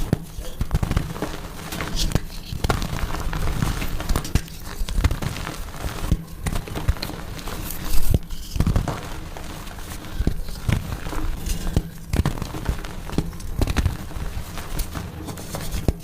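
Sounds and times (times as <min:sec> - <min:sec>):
chalk being crushed: 0:00.0 - 0:16.0.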